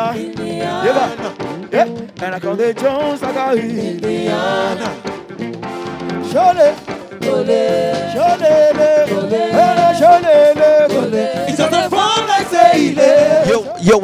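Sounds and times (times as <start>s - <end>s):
person singing: 0.0s - 5.0s, 6.2s - 13.9s
live band playing: 0.0s - 14.0s.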